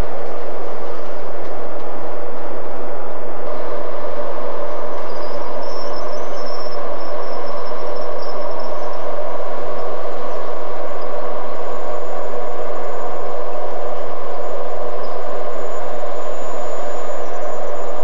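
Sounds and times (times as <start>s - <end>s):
faint high whine: 0.0s - 18.0s
freight train rumble and hum: 0.0s - 18.0s.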